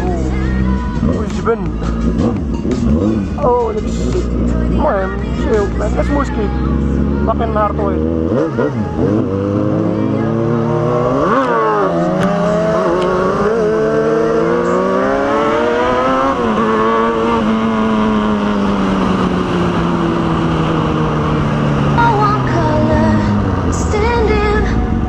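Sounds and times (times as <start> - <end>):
motorcycle engine shifting gears: 0.0 - 25.0.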